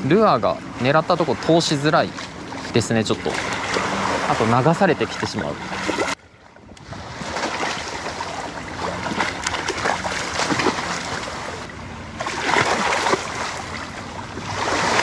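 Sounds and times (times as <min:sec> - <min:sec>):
waves lapping against shore: 0:00.0 - 0:15.0.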